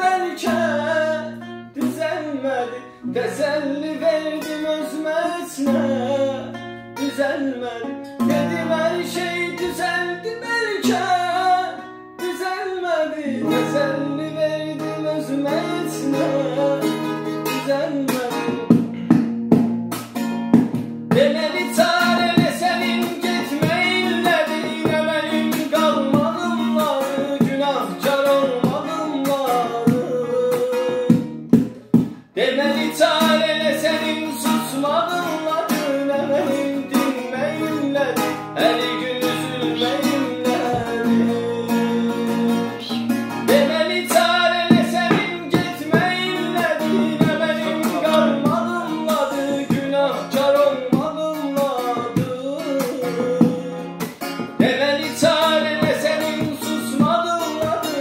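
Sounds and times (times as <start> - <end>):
man singing ornamented melody: 0.0 - 18.7, 21.1 - 31.5, 32.3 - 58.0
guitar accompaniment: 0.0 - 58.0.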